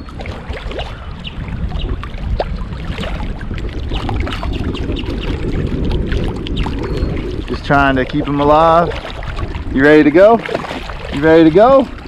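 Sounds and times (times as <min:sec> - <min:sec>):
low steady rumble: 0:00.0 - 0:12.0
water splashing and sloshing: 0:00.0 - 0:12.0.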